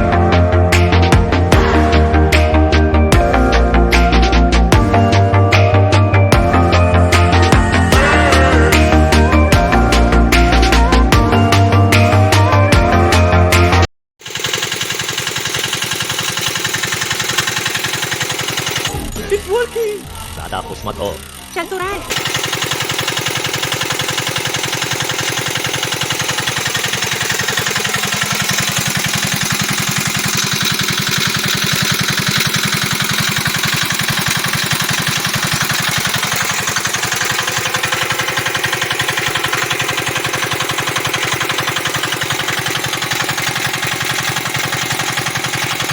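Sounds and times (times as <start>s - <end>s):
small diesel engine running: 0.0s - 45.9s.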